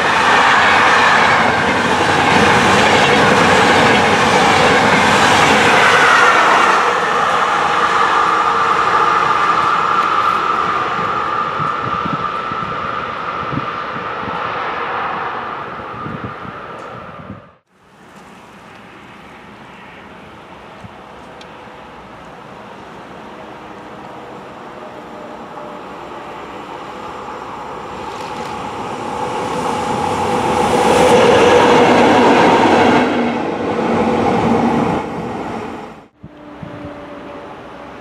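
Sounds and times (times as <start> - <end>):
train approaching: 0.0 - 38.0.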